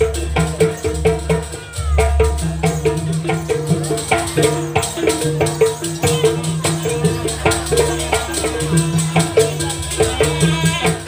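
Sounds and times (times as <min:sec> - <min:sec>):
drum strikes: 0:00.0 - 0:11.0
gamelan music: 0:00.0 - 0:11.0
pitched metallic notes: 0:00.0 - 0:11.0.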